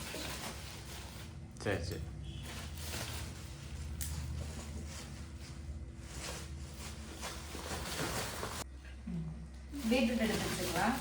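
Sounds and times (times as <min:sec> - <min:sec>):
vegetables rustling: 0:00.0 - 0:08.7, 0:09.7 - 0:11.0.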